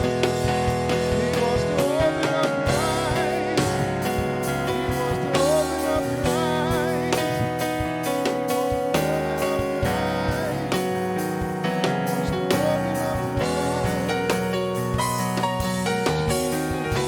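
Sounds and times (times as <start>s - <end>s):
person singing with vibrato: 0.0s - 15.0s, 15.6s - 17.0s
drum kit: 0.0s - 17.0s
gospel band playing live: 0.0s - 17.0s
guitar: 0.0s - 17.0s.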